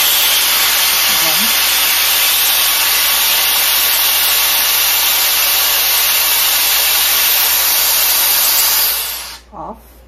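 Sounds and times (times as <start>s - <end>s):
air styler blowing air: 0.0s - 9.5s.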